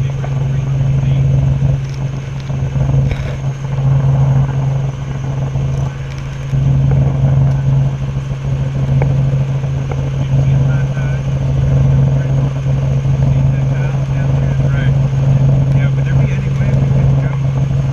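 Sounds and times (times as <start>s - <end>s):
helicopter engine and rotor drone: 0.0s - 17.9s.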